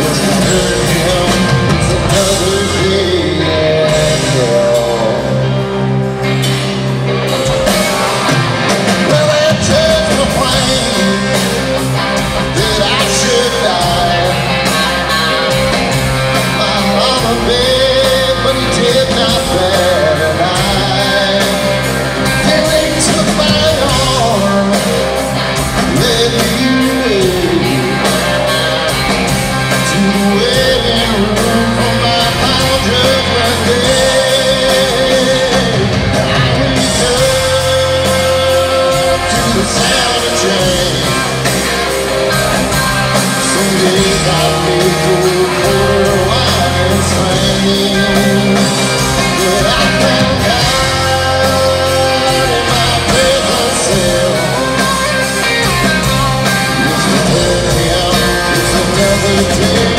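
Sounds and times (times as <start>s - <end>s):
country-rock band playing live: 0.0s - 59.9s
melodic lead line: 0.0s - 59.9s.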